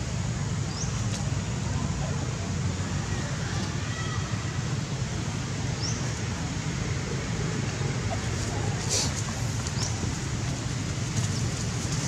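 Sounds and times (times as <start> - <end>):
outdoor rumble and hiss: 0.0 - 12.0.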